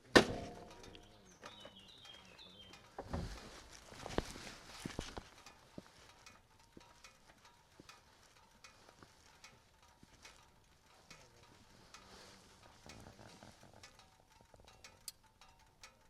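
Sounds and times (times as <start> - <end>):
faint clicks: 0.6 - 16.0.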